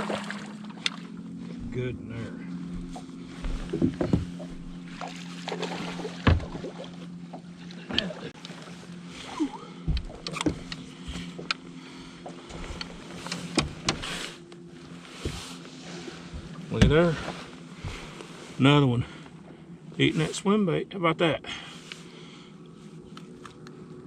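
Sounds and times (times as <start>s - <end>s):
boat low hum: 0.0s - 24.0s.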